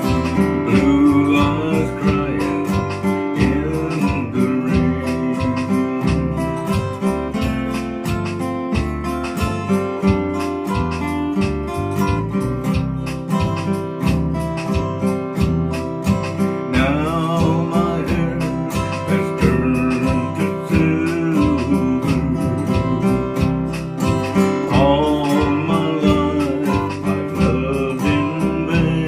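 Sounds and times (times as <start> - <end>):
bass line: 0.0 - 29.0
strummed acoustic guitar: 0.0 - 29.0.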